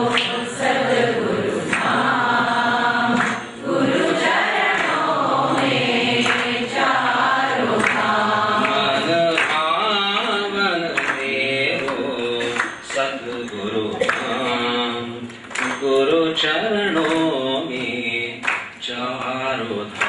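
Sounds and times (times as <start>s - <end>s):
voices singing devotional song: 0.0s - 20.0s.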